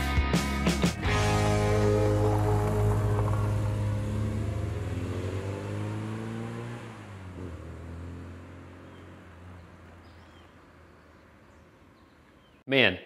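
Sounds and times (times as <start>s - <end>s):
car engine accelerating away: 1.0s - 11.6s.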